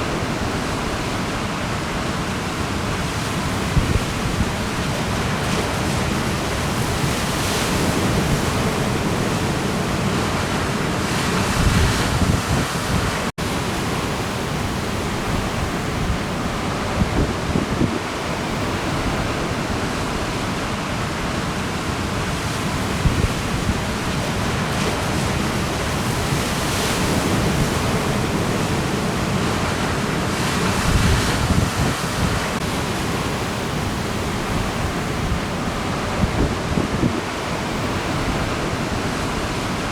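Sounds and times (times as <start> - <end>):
ocean surf breaking: 0.0 - 39.9
wind buffeting microphone: 2.9 - 20.9, 22.4 - 39.9.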